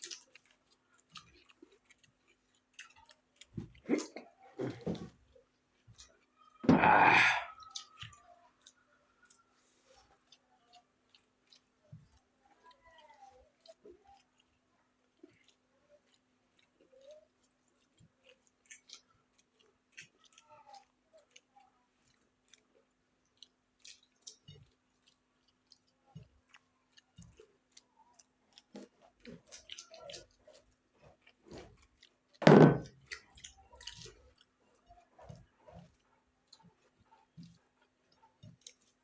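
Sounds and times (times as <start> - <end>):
people chewing and smacking: 0.0 - 39.0.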